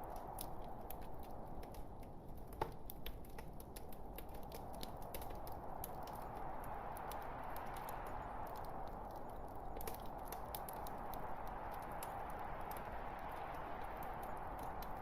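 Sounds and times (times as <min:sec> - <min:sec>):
log fire crackling: 0:00.0 - 0:15.0.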